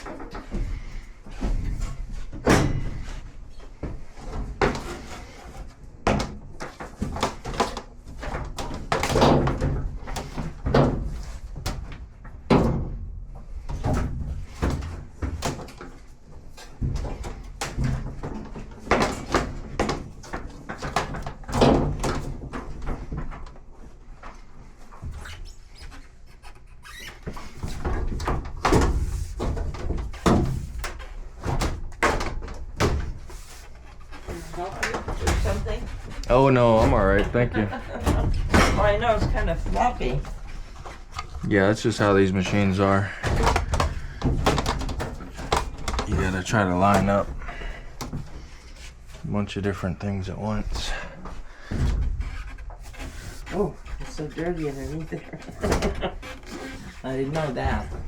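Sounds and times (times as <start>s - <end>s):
sheet metal clunks and knocks: 0.0s - 23.6s, 27.2s - 49.2s, 50.0s - 58.0s.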